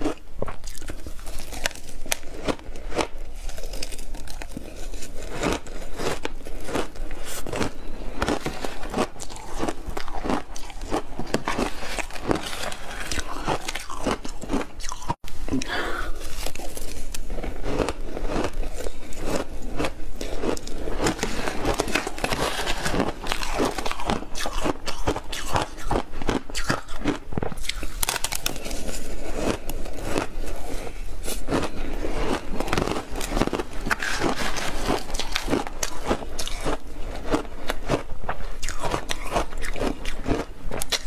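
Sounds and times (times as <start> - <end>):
ice being bitten and chewed: 0.0 - 41.0.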